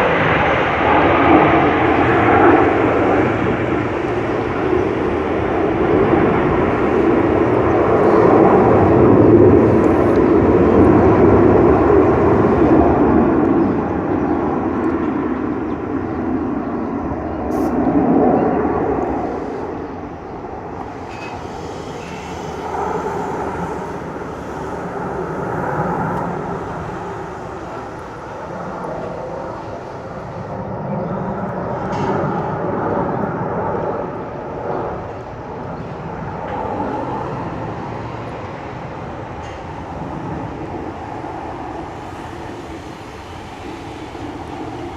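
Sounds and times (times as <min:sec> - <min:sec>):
aircraft engines rumbling: 0:00.0 - 0:44.9.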